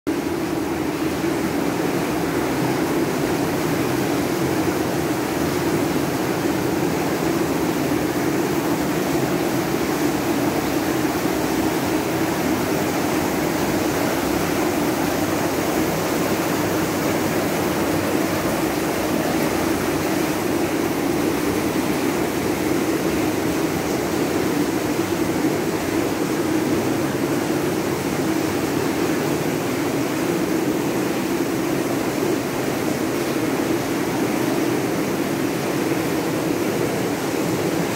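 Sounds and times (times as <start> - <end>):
ventilation hum and rush: 0.1 - 37.9.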